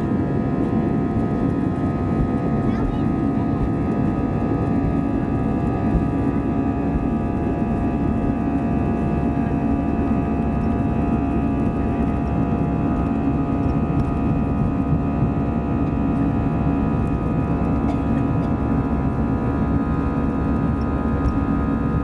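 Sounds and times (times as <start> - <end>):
jet engine rumble in cabin: 0.0 - 22.0.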